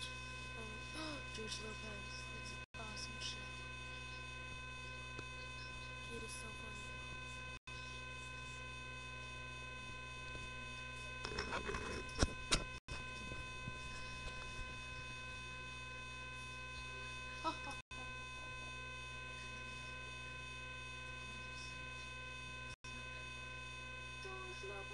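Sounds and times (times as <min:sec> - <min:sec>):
electrical hum: 0:00.0 - 0:24.9.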